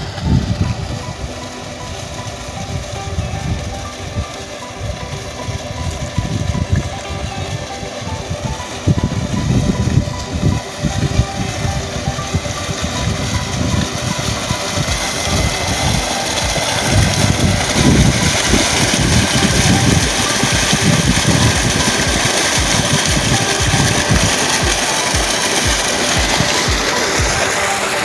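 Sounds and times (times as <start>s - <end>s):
water gushing from pipe: 0.0s - 28.0s.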